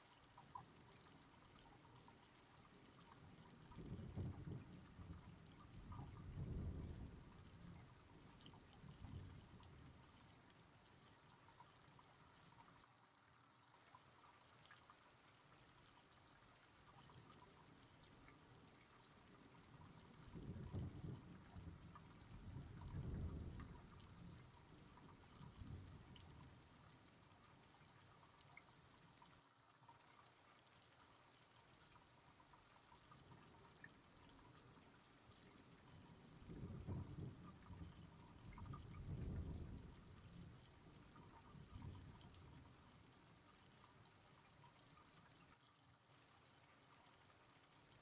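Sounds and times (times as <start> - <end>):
faint steady rain: 0.0 - 48.0
water drips: 0.0 - 48.0.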